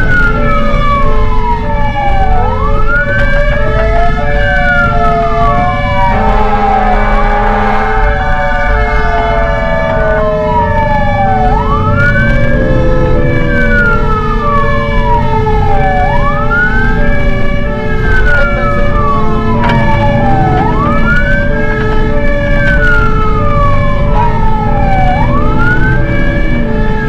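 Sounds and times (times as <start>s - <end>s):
fire engine siren wailing: 0.0s - 27.0s
truck rumble: 0.0s - 27.0s.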